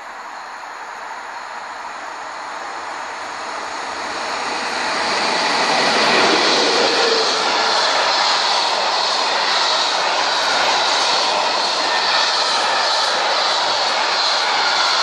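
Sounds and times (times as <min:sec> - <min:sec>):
freight train passing: 0:00.0 - 0:15.0.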